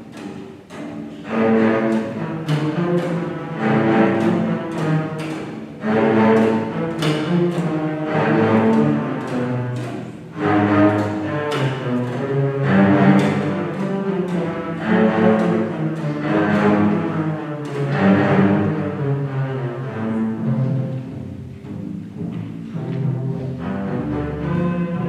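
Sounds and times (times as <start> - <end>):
double basses playing with bow: 0.0 - 25.0.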